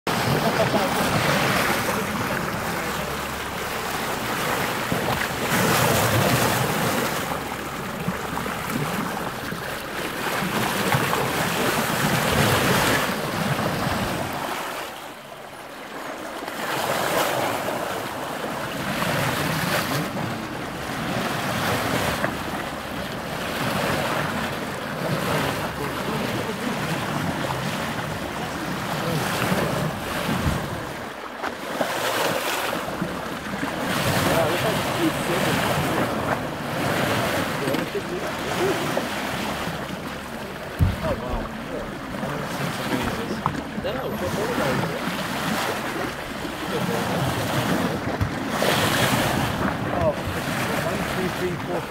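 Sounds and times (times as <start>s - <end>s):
water rushing along boat hull: 0.0s - 51.9s.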